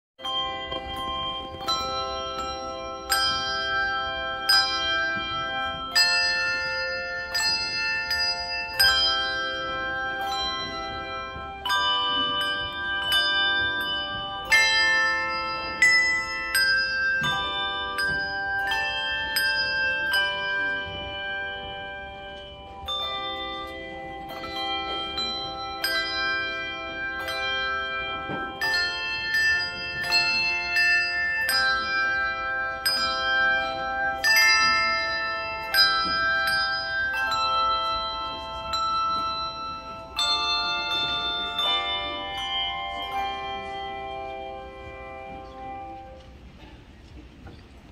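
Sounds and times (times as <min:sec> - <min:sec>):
handbell choir ringing: 0:00.2 - 0:47.9.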